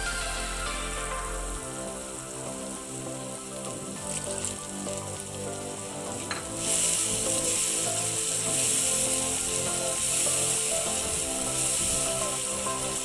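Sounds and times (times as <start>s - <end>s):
spices sizzling in hot oil: 0.0s - 13.0s
water hissing in hot pan: 0.0s - 13.0s.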